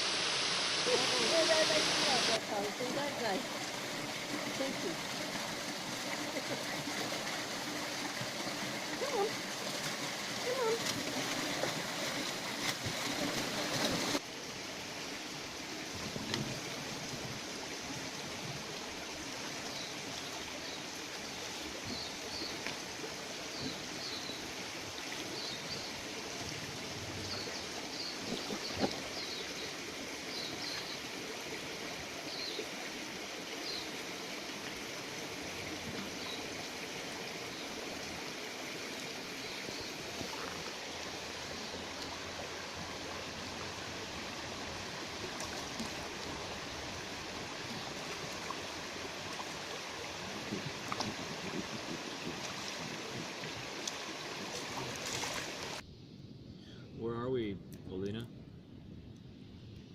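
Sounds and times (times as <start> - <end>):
flowing stream water: 0.0 - 55.8.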